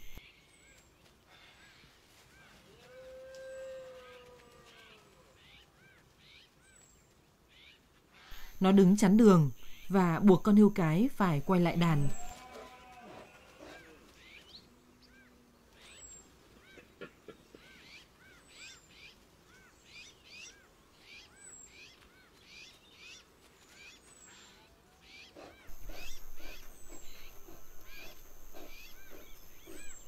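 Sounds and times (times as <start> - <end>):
birds chirping: 4.9 - 30.0.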